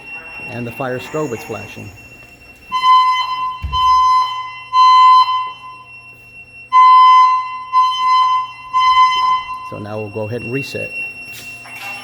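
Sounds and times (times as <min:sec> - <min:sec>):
high-low fire alarm tone: 0:00.0 - 0:12.0.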